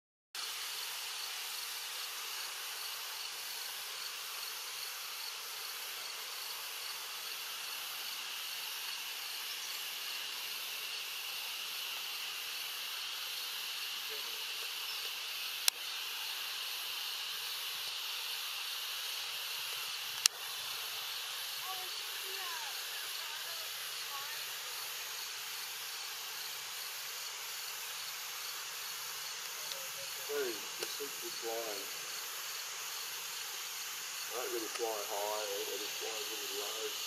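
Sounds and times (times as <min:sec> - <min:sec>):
insect chorus: 0:00.4 - 0:37.0
wetland ambience: 0:00.4 - 0:37.0.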